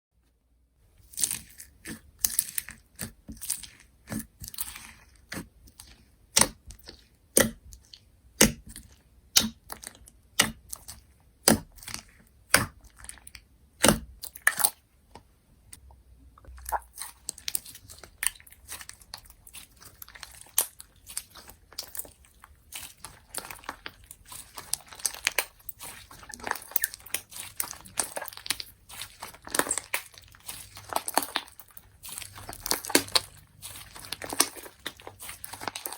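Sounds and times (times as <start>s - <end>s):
slime popping and crackling: 1.1s - 14.8s, 16.6s - 35.9s.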